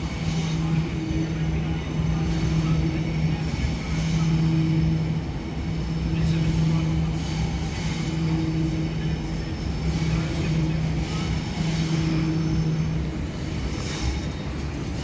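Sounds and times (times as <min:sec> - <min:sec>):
electric train humming: 0:00.0 - 0:15.0
train rumble: 0:00.0 - 0:15.0.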